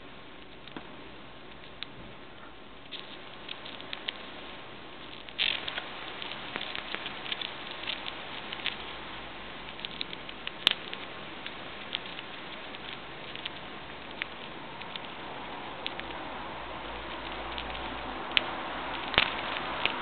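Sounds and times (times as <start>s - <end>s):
hamster nibbling popcorn: 0.0s - 20.0s.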